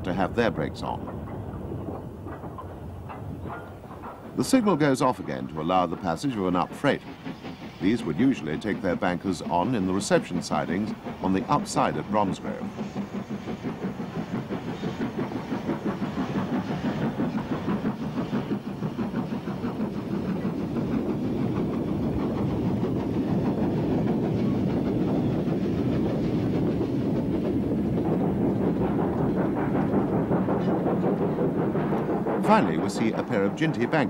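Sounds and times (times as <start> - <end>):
steam freight train passing: 0.0 - 34.0
wagons rattling over rail joints: 0.1 - 34.0.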